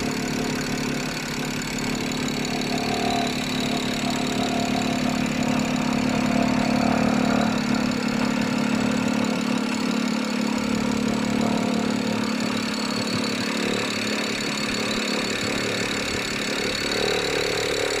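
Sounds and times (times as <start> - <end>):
car engine idling: 0.0 - 18.0
engine rattle: 0.0 - 18.0.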